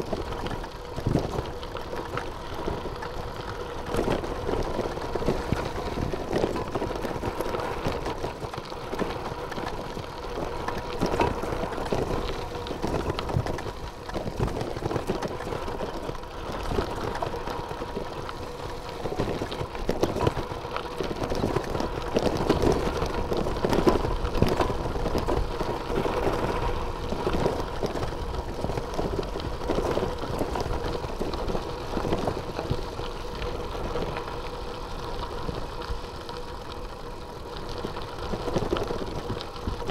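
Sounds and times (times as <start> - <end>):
bike rattling over stones: 0.0 - 39.9
gravel road noise: 0.0 - 39.9.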